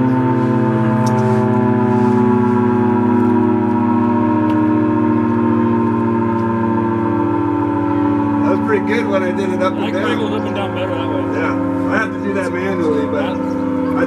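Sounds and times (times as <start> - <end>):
civil defense siren wailing: 0.0 - 14.0.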